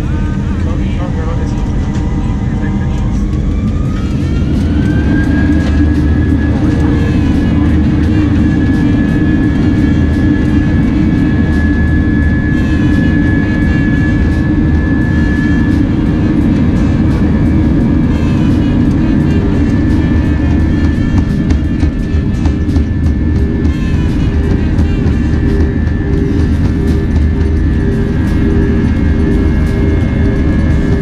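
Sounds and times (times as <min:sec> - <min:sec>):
heavy rumble: 0:00.0 - 0:31.0
jet engines spooling up: 0:00.0 - 0:31.0.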